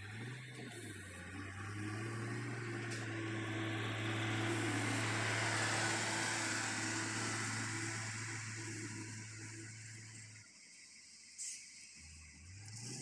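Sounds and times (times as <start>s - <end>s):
grader diesel engine running: 0.0s - 10.4s.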